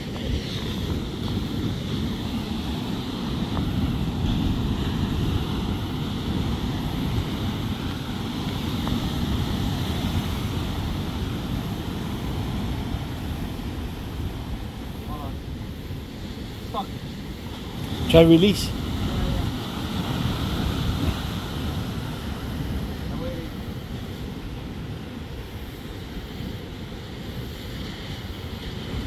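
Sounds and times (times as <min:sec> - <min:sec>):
ocean surf on rocky shore: 0:00.0 - 0:29.0
wind buffeting microphone: 0:00.0 - 0:29.0.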